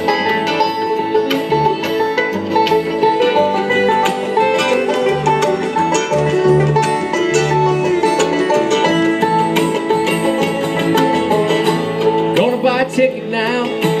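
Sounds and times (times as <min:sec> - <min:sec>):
bluegrass band playing: 0:00.0 - 0:14.0.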